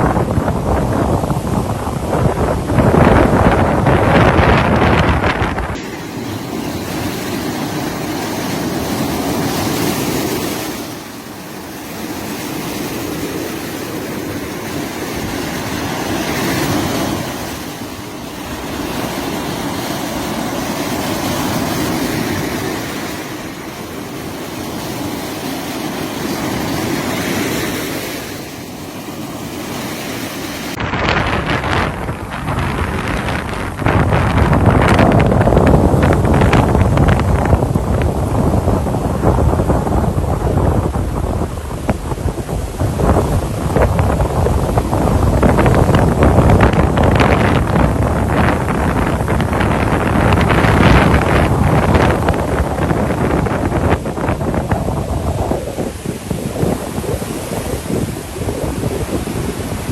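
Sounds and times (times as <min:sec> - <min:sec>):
surf breaking on beach: 0:00.0 - 0:59.9
wind rumbling on microphone: 0:00.0 - 0:59.9.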